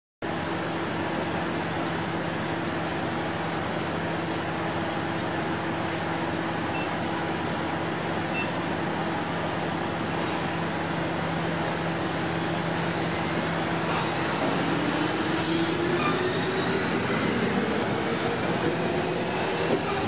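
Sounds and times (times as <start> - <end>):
electric train humming: 0.3 - 20.0.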